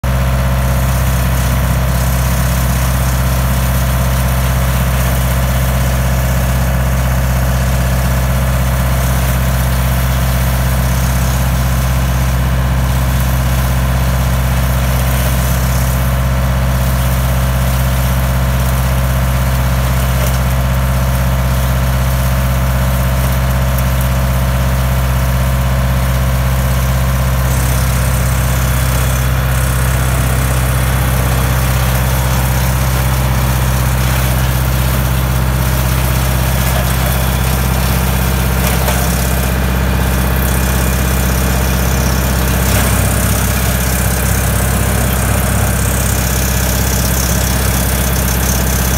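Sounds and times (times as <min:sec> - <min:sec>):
tractor engine droning: 0:00.0 - 0:48.9
wood chipper chipping branches: 0:00.0 - 0:48.9.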